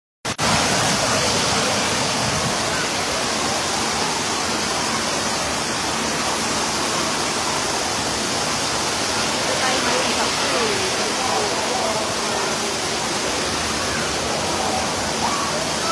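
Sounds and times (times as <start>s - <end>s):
shower water pouring into pool: 0.3s - 15.9s.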